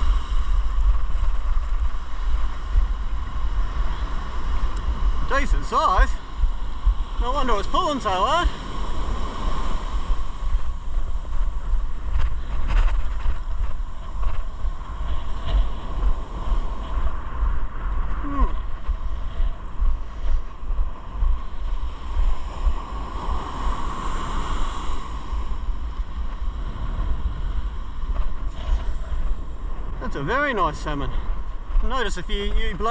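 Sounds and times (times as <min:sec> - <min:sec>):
ocean surf breaking: 0:00.0 - 0:32.9
wind buffeting microphone: 0:00.0 - 0:32.9.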